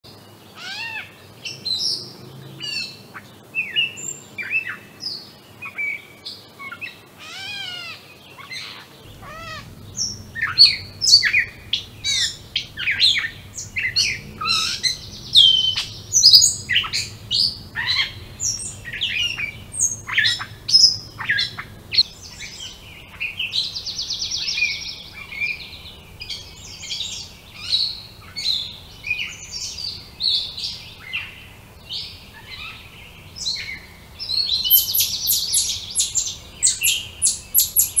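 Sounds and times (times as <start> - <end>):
songbirds singing: 0.0 - 38.0
fast rattling bird trills: 6.6 - 38.0.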